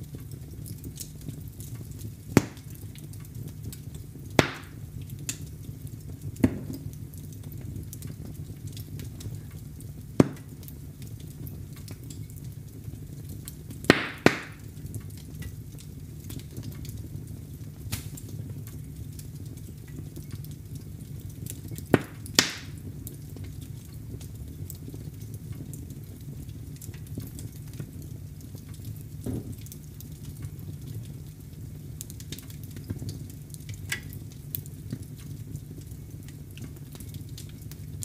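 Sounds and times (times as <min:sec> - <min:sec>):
fire rumbling and crackling: 0:00.0 - 0:38.0
loud pops of burning wood: 0:00.2 - 0:38.0.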